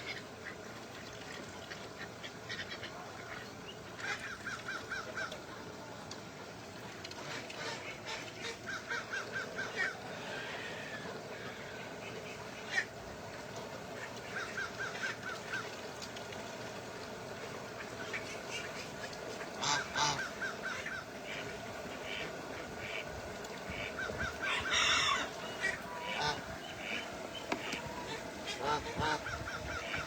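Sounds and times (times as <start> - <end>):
ducks and geese calling: 0.0 - 5.9, 7.1 - 30.0.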